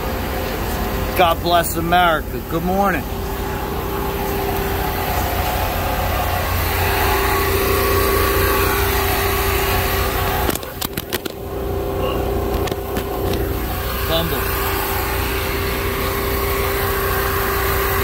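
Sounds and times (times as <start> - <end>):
diesel welding machine droning: 0.0 - 18.0.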